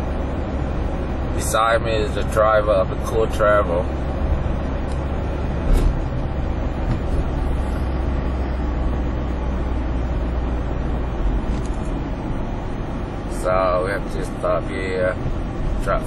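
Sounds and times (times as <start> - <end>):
vehicle engine and tyres rumbling: 0.0 - 16.0.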